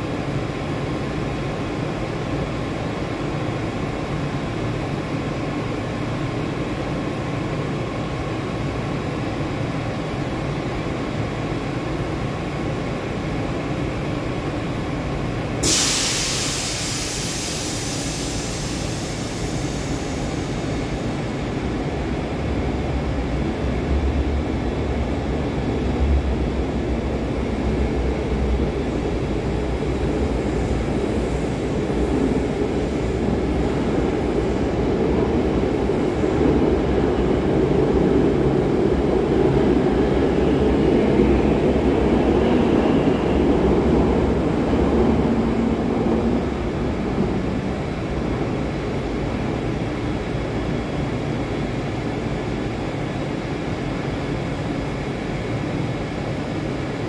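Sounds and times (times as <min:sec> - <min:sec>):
trains rumbling in station: 0:00.0 - 0:57.0.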